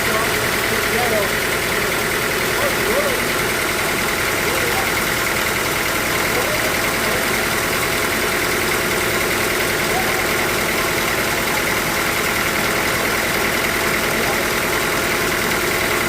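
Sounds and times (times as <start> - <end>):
sawmill machinery drone: 0.0 - 16.0.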